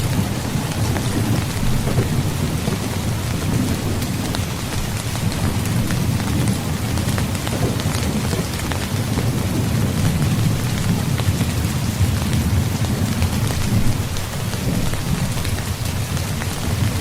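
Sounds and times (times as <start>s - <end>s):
heavy rain pattering: 0.0s - 17.0s
low rumble of thunder: 0.0s - 17.0s.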